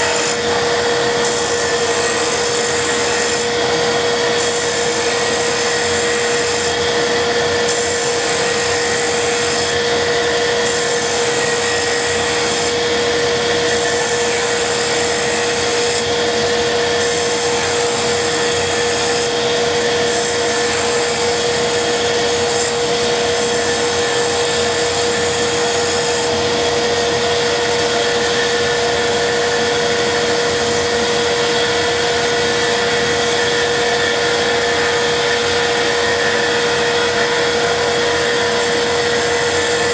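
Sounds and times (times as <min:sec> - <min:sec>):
gouge scraping spinning wood: 0:00.0 - 0:39.9
wood lathe motor whine: 0:00.0 - 0:39.9.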